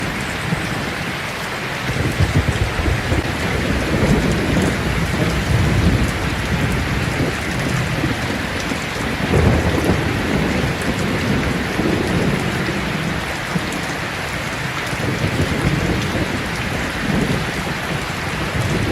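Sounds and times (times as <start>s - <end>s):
heavy rain on a tin roof: 0.0s - 18.9s
thunder rumbling: 1.8s - 18.9s.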